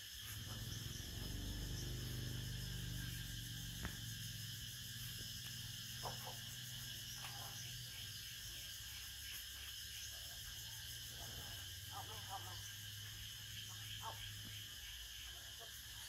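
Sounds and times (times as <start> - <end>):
insect chirring: 0.0 - 16.0.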